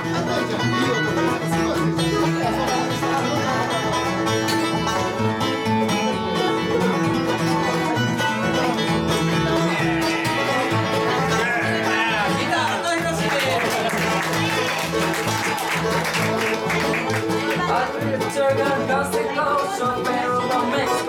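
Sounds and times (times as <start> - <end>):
bluegrass band playing: 0.0 - 21.0.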